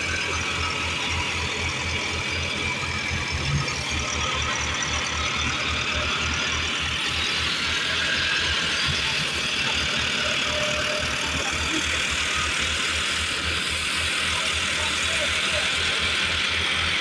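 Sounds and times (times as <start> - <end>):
tractor engine throbbing: 0.0 - 17.0.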